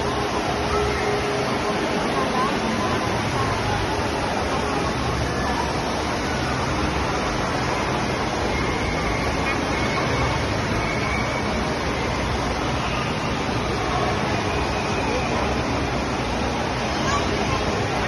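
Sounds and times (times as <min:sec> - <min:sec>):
crowd chatter: 0:00.0 - 0:18.0
rushing water: 0:00.0 - 0:18.0.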